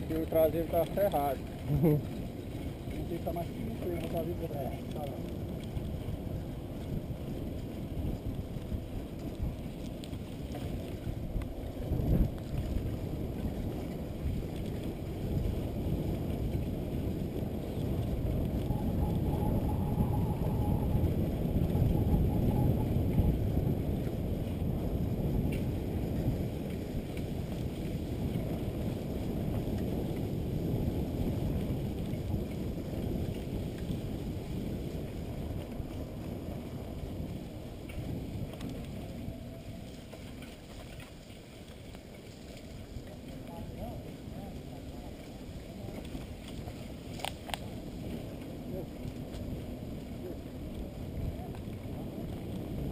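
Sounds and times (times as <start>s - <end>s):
bike rolling on dirt trail: 0.0s - 52.9s
wind buffeting microphone: 0.0s - 52.9s.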